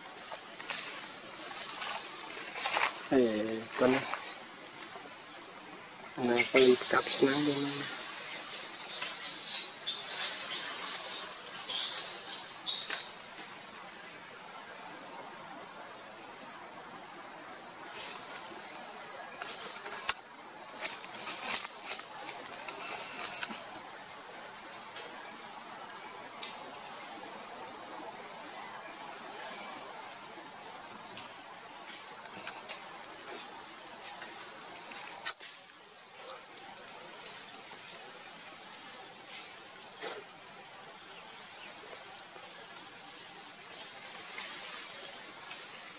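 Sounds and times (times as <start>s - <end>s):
high-pitched insect chorus: 0.0s - 45.9s.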